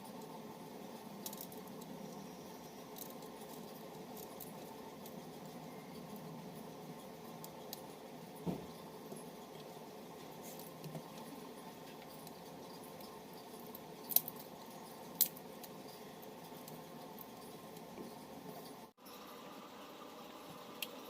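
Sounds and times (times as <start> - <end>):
steady low background hum: 0.0 - 21.0.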